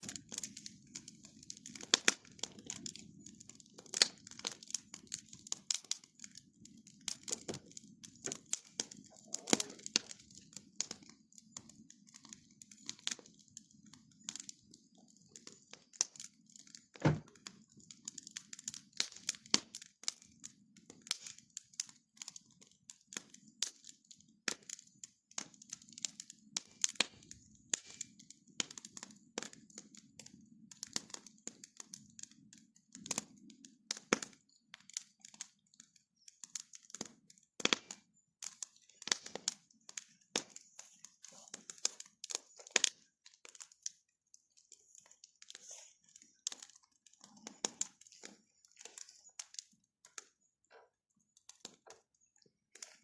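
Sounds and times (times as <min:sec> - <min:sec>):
wood bonfire crackling: 0:00.0 - 0:53.0.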